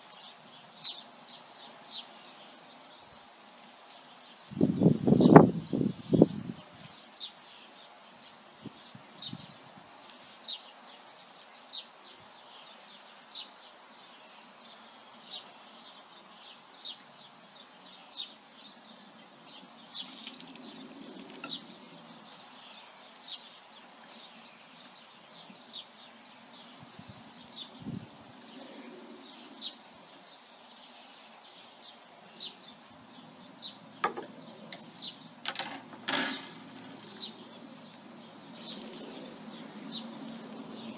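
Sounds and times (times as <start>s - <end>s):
small bird chirping: 0.0s - 35.5s, 36.5s - 40.9s.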